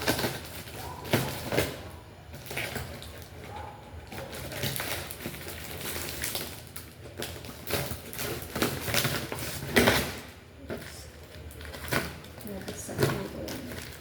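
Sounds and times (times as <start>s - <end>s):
packaging rustling and crinkling: 0.0s - 14.0s.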